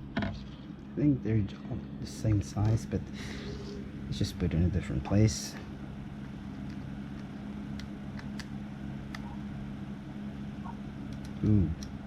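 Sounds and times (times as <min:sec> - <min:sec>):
appliance humming: 0:00.0 - 0:12.0.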